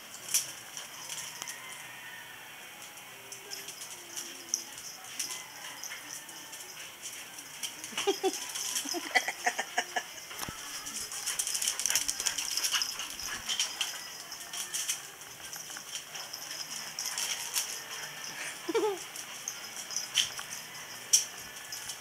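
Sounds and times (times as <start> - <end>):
dogs scuffling: 2.8 - 22.0.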